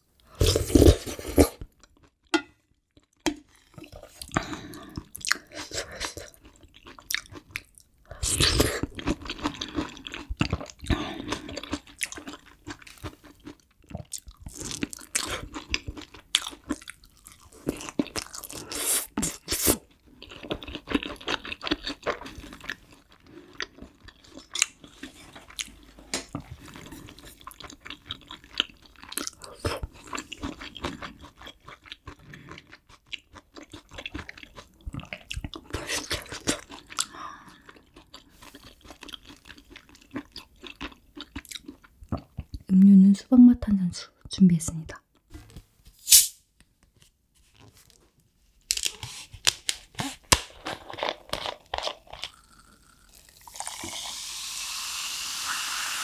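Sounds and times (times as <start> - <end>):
person chewing wetly: 0.2 - 42.7, 50.1 - 54.0.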